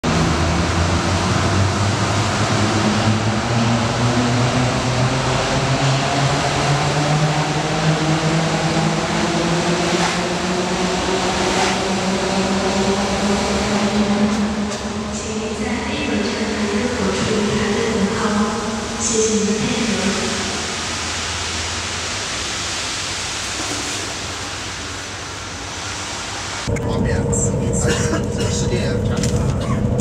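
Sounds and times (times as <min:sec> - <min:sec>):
low hum rising in pitch: 0:00.0 - 0:22.8, 0:26.6 - 0:30.0
train rushing past: 0:00.0 - 0:30.0.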